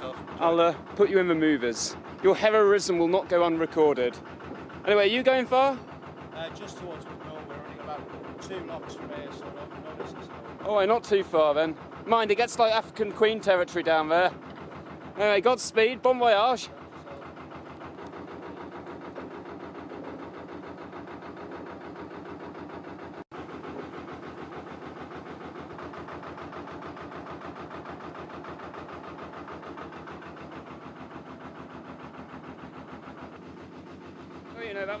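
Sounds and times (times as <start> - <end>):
diesel engine running at low revs: 0.0 - 35.0.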